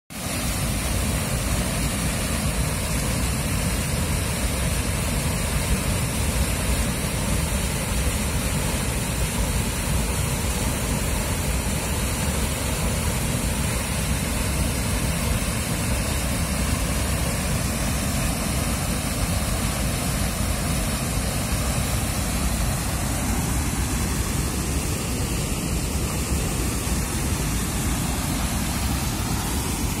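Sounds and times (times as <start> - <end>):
water rushing over a weir: 0.1 - 30.0.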